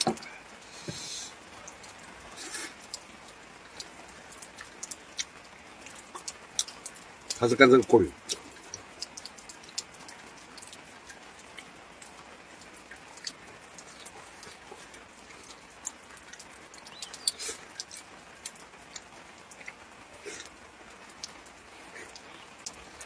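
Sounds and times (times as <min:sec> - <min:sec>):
light rain pattering: 0:00.0 - 0:23.0.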